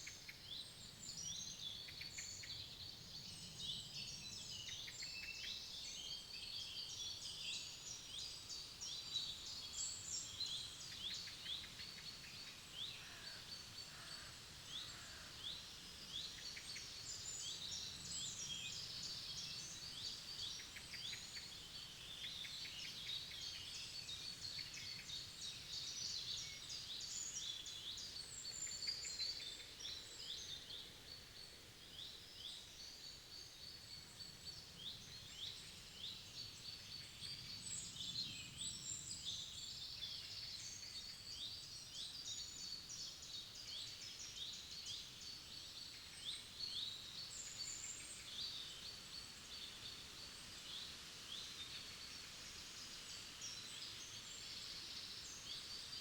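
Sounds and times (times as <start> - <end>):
songbirds singing and calling: 0.0 - 56.0.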